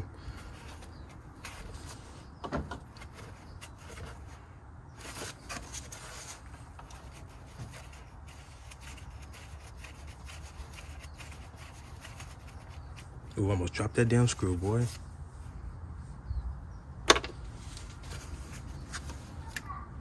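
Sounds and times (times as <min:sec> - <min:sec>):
gloved hand rubbing and scraping: 0:00.0 - 0:13.4, 0:14.3 - 0:15.7, 0:17.5 - 0:19.4.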